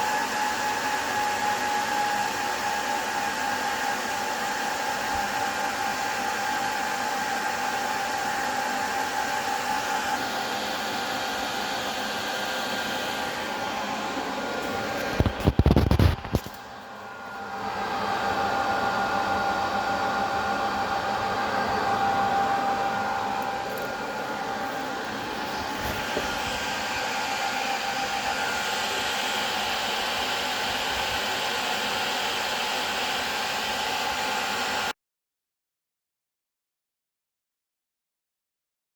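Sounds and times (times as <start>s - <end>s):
server cooling fans whining: 0.0s - 34.9s.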